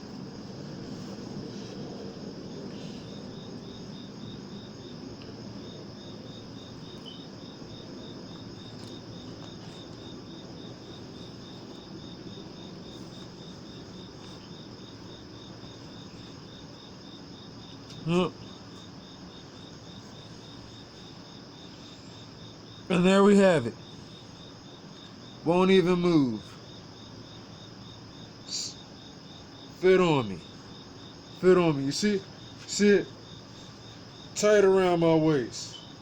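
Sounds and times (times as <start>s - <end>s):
insects chirping: 0.0s - 36.0s
low background hum: 0.0s - 36.0s.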